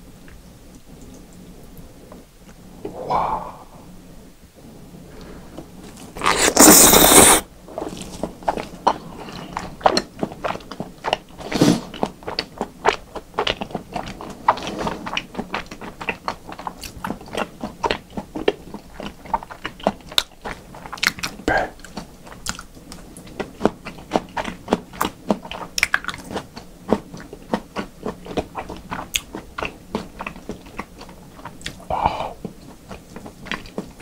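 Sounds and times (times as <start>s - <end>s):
food crunching: 5.8s - 34.0s
wet chewing with mouth clicks: 5.8s - 34.0s.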